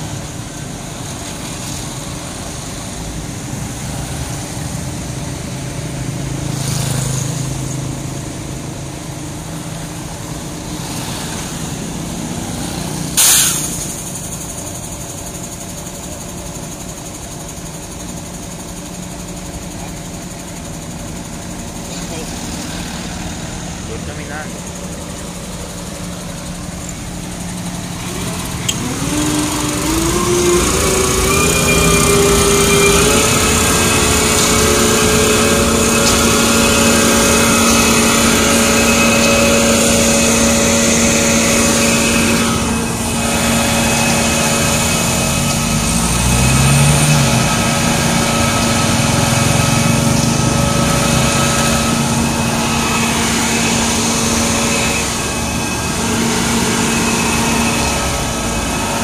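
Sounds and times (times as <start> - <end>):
diesel truck engines revving: 0.0 - 59.0.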